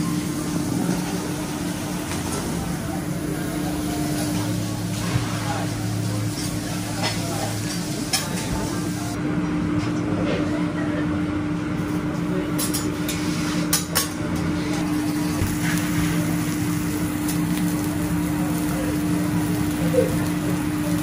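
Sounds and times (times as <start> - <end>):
ventilation fan humming: 0.0 - 21.0.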